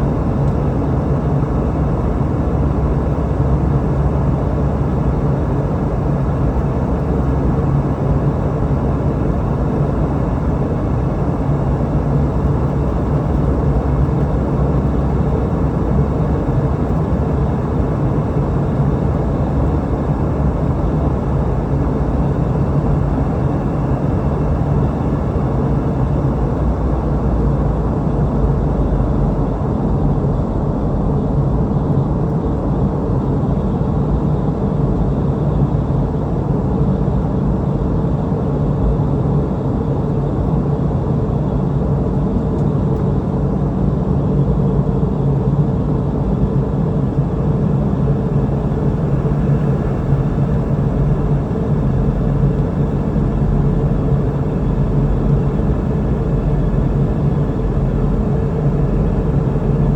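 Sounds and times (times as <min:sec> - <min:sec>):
low cabin hum: 0:00.0 - 0:37.8, 0:42.3 - 0:59.9
jet engine drone: 0:00.0 - 0:59.9.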